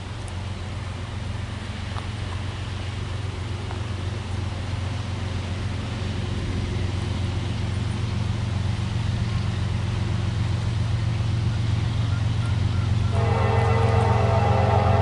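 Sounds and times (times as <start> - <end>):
diesel locomotive engines rumbling: 0.0 - 15.0.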